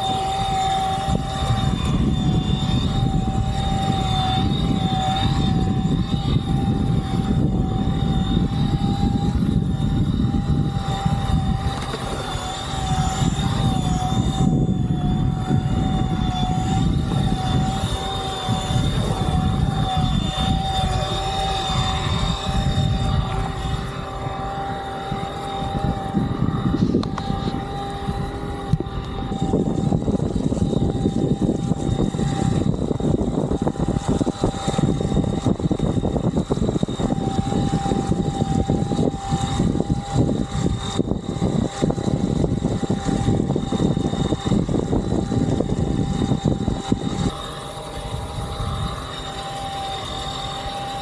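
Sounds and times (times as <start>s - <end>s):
electric motor whining: 0.0s - 51.0s
wind and water rushing: 0.0s - 51.0s.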